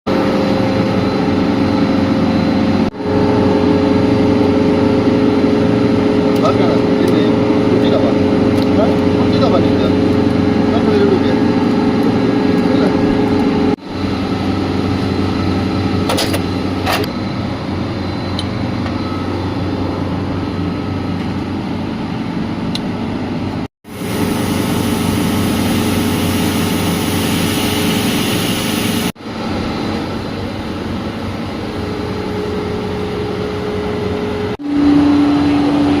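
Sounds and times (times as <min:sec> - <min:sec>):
refrigeration compressor hum: 0:00.1 - 0:36.0.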